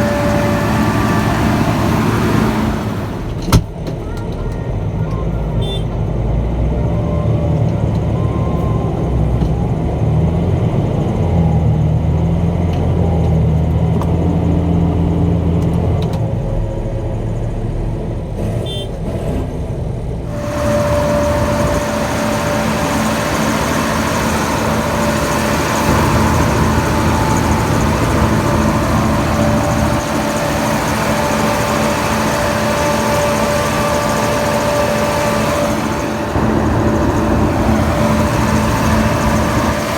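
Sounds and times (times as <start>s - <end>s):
diesel farm machinery droning: 0.0s - 39.9s
harsh machinery noise with whine: 0.0s - 39.9s.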